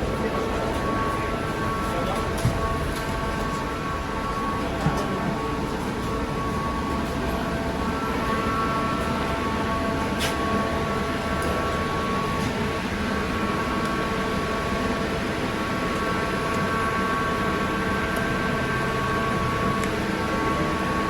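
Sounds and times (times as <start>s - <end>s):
airliner cabin hum and air rush: 0.0s - 21.0s
faint steady whining tones: 0.0s - 21.0s.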